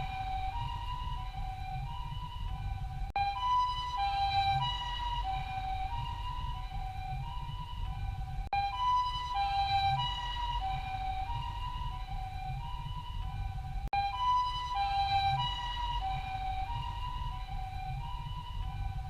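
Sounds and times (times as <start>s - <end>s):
low rumble: 0.0s - 19.0s
two-tone ambulance siren: 0.0s - 19.0s.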